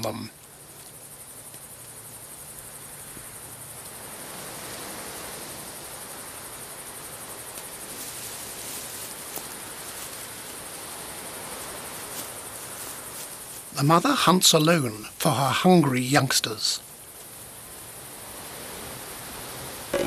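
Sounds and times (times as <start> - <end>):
even hiss: 0.0 - 20.0
insects chirring in trills: 0.0 - 20.0.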